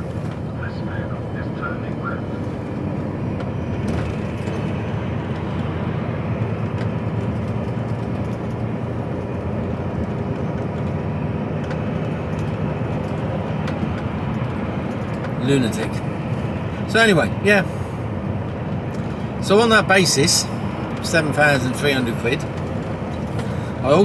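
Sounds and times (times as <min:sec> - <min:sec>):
lorry engine and road rumble: 0:00.0 - 0:24.0.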